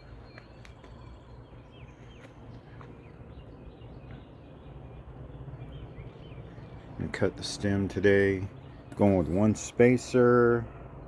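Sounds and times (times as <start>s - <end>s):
low steady background rumble: 0.0s - 11.0s.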